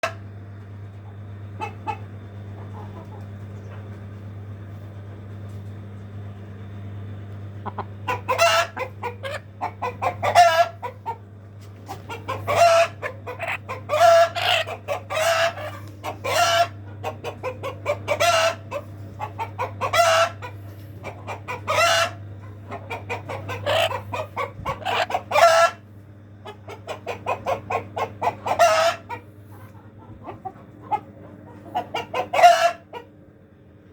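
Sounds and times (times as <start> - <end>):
chickens clucking and calling: 0.0 - 4.6, 5.4 - 33.4
steady low hum: 0.0 - 33.9.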